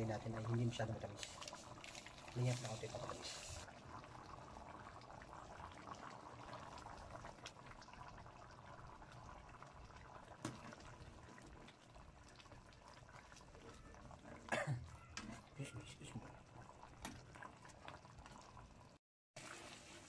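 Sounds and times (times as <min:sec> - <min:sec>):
sauce simmering in a metal pan: 0:00.0 - 0:20.0.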